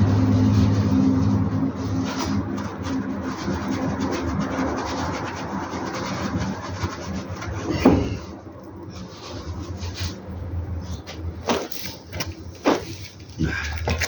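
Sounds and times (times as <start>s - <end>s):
scrubbing metal parts: 0.0s - 14.0s.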